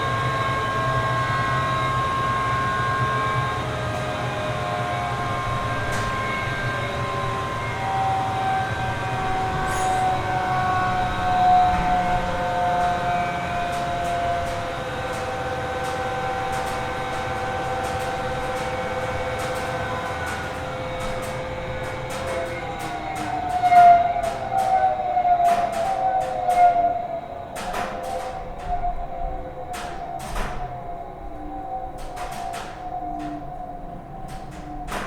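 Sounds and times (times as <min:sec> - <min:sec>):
factory machinery whining: 0:00.0 - 0:35.0.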